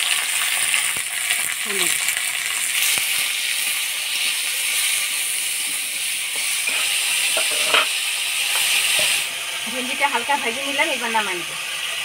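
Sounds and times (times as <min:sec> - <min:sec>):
okra sizzling in oil: 0:00.0 - 0:12.0.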